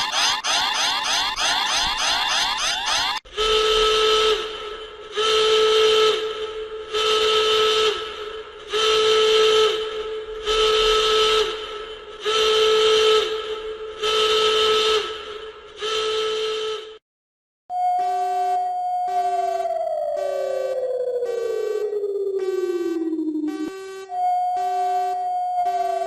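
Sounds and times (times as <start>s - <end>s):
emergency alert horn blasts: 0.0s - 17.0s, 17.7s - 26.0s.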